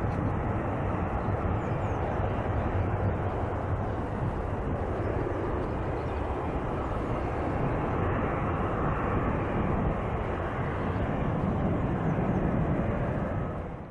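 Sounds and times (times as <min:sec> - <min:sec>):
airliner engines droning: 0:00.0 - 0:13.9.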